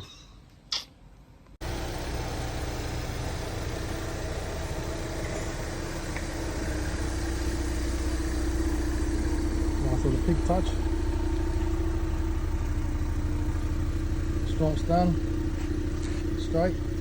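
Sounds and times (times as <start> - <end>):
car engine idling: 1.6 - 17.0.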